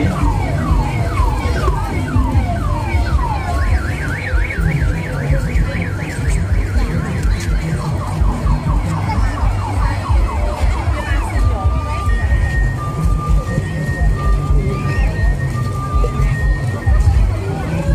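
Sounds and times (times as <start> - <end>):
electronic alarm siren: 0.0 - 17.9.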